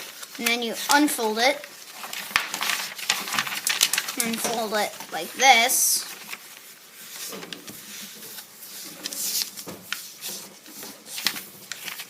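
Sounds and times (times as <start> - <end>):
paper folded and creased: 0.0 - 12.0.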